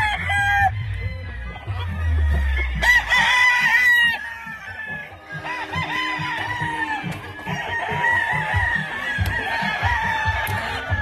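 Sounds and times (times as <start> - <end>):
roosters crowing: 0.0 - 11.0.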